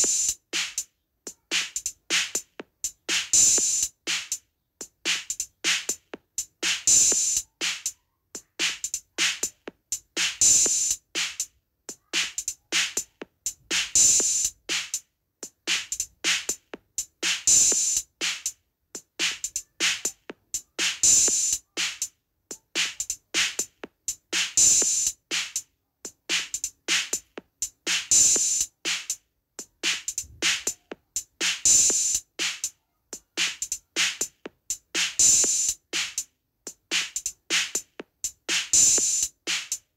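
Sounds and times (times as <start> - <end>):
looped drum rhythm: 0.0 - 39.9.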